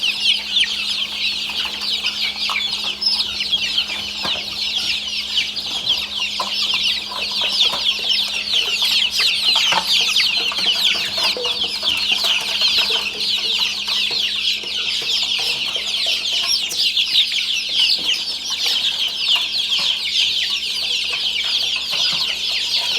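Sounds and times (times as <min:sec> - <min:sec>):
chicks peeping: 0:00.0 - 0:22.9.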